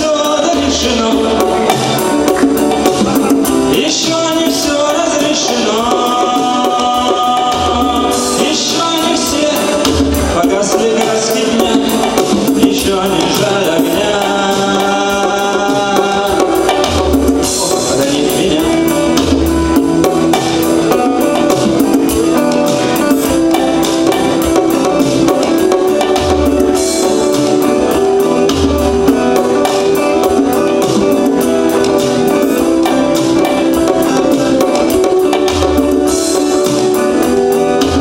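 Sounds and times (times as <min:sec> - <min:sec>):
instrumental rock music: 0:00.0 - 0:38.0.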